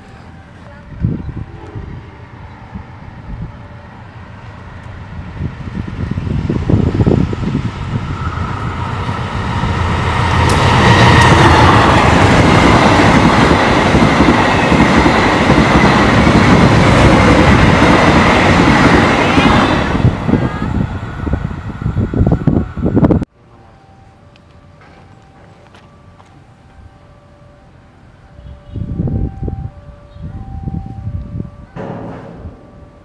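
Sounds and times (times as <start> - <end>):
locomotive passing: 0.0 - 33.0
wheels on rail: 0.0 - 33.0.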